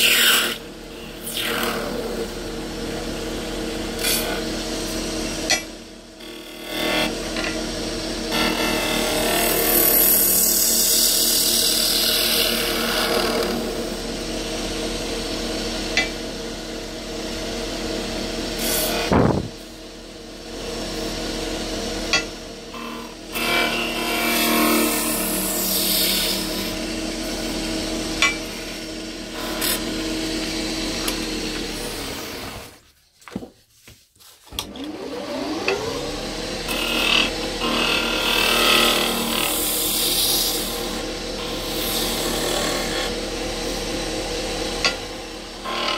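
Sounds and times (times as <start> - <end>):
wood lathe motor hum: 0.0 - 32.8, 34.5 - 45.9.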